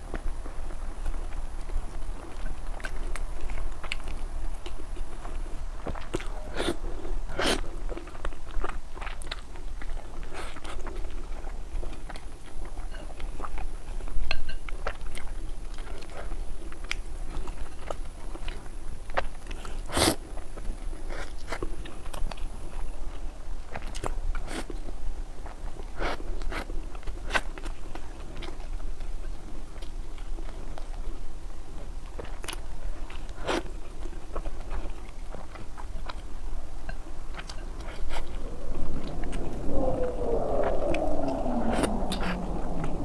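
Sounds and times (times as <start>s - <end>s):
chewing and biting food: 0.0s - 39.8s
food crunches and clicks: 0.1s - 6.8s, 7.4s - 39.5s.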